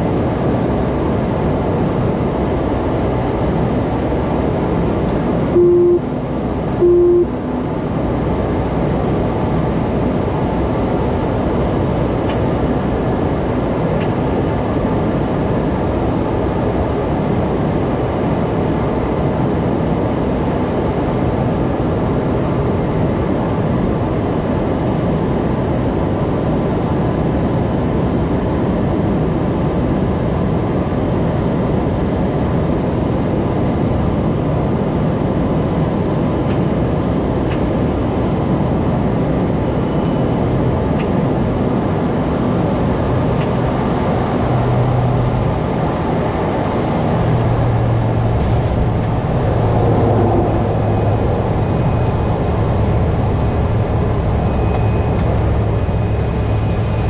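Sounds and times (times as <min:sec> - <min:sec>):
airflow over airframe: 0:00.0 - 0:57.0
turboprop engine and propeller: 0:00.0 - 0:57.0.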